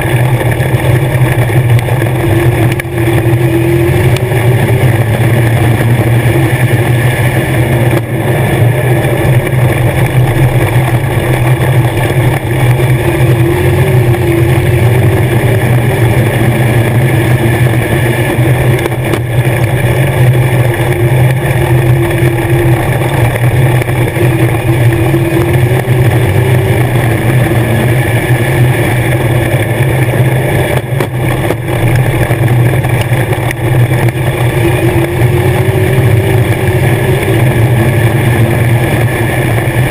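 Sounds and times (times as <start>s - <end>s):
race car engine drone: 0.0s - 39.9s.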